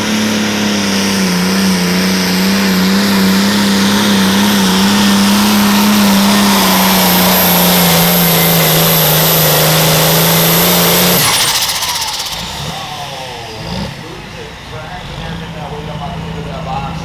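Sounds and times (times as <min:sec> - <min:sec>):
diesel tractor engine under load: 0:00.0 - 0:17.0
high whine: 0:00.0 - 0:17.0.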